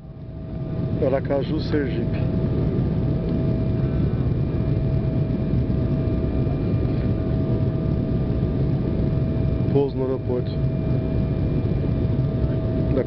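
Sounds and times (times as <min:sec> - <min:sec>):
jet cabin rumble: 0:00.0 - 0:13.0
thin steady whine: 0:00.0 - 0:13.0.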